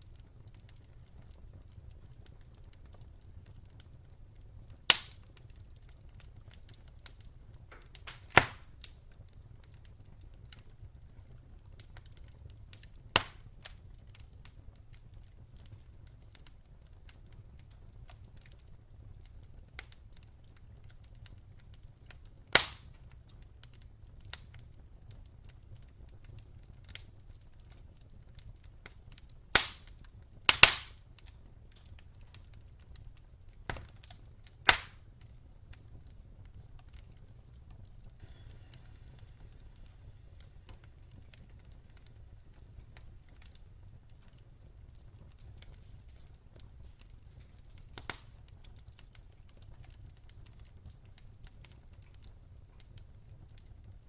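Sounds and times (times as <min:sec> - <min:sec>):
campfire crackling: 0:00.0 - 0:54.0
loud fire pops: 0:00.0 - 0:54.0.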